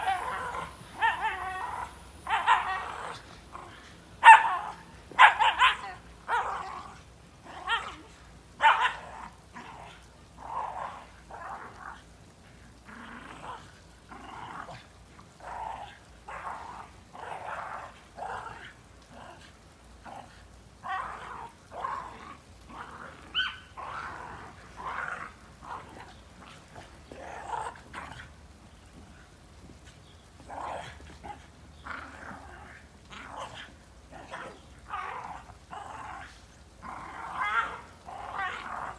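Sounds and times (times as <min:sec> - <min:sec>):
dog growling and barking: 0:00.0 - 0:12.1, 0:12.8 - 0:38.9.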